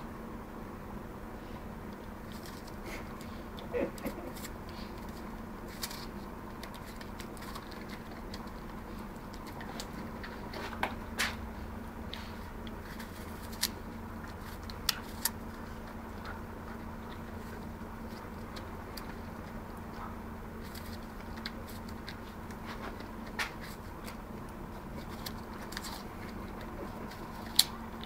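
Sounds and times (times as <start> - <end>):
faint hum: 0.0 - 28.0
dogs crunching apple: 1.9 - 11.4, 12.0 - 28.0.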